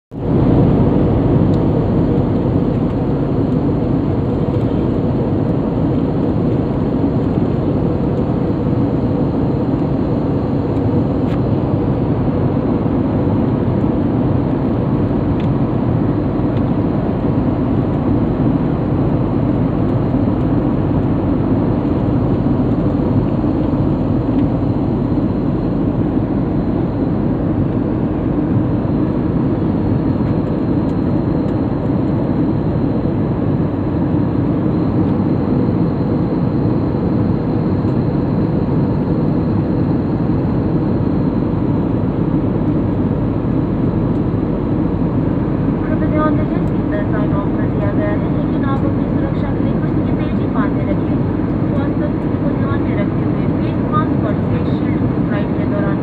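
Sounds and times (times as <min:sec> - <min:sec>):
airliner engines and airflow rush: 0:00.1 - 0:56.0
faint steady hum: 0:00.2 - 0:56.0.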